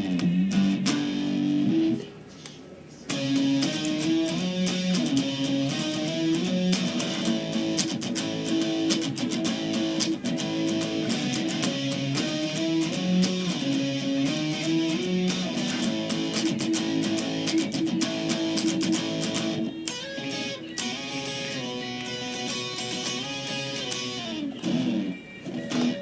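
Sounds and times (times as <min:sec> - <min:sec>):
overdriven electric guitar: 0:00.0 - 0:02.1, 0:03.1 - 0:26.0.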